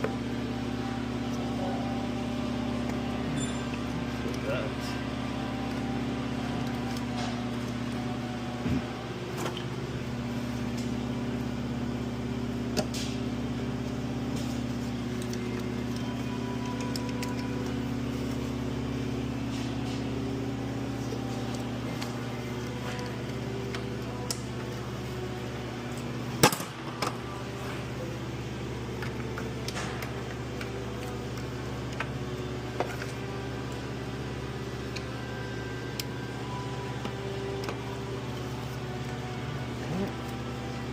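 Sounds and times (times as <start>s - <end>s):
low background hum: 0.0s - 40.9s.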